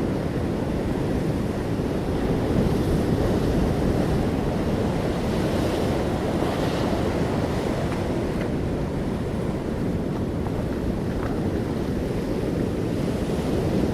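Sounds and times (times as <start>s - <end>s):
waves washing onto shore: 0.0s - 13.9s.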